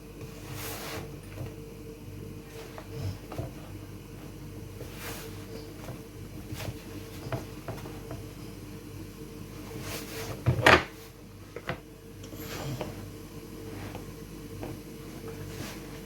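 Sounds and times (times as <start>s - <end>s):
hands kneading dough: 0.0s - 16.0s.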